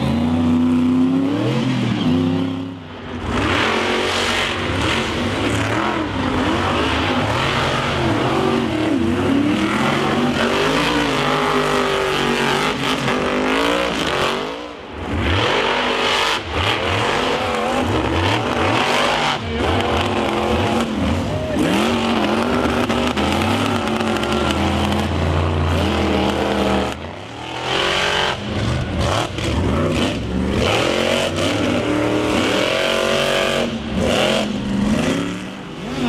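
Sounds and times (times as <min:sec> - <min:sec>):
monster truck engines revving: 0:00.0 - 0:36.0.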